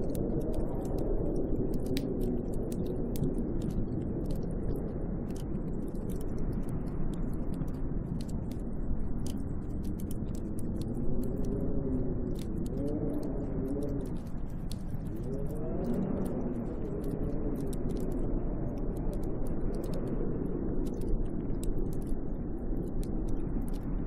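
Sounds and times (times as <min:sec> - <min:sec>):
faint ticks: 0:00.0 - 0:24.0
howling snowstorm wind: 0:00.0 - 0:24.0.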